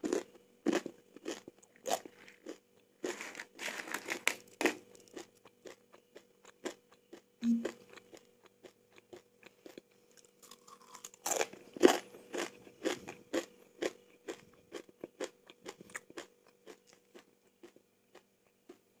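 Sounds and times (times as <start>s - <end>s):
chewing crisp chips: 0.0s - 18.9s.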